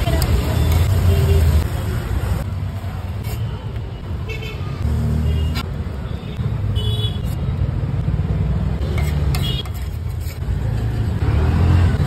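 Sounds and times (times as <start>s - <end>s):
roadside traffic engines: 0.0s - 12.0s.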